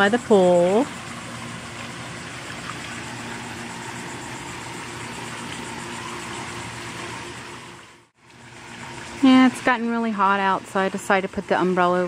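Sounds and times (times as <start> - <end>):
pool pump humming: 0.0 - 12.0
running water: 0.0 - 12.0.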